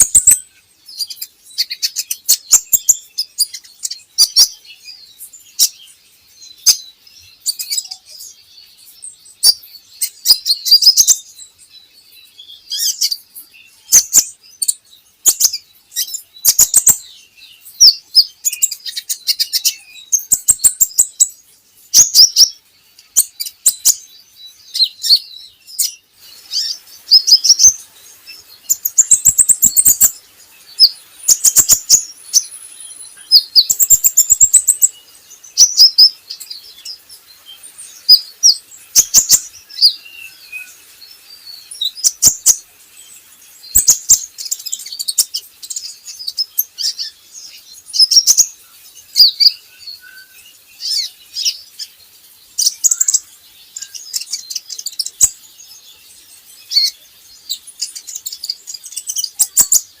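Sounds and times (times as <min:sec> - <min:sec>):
bird chirping and trilling: 0:00.0 - 1:00.0.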